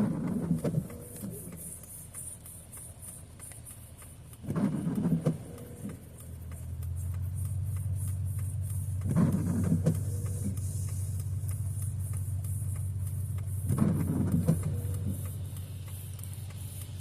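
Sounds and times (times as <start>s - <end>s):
car driving on wet road: 0.0s - 17.0s
faint ticks: 0.0s - 17.0s.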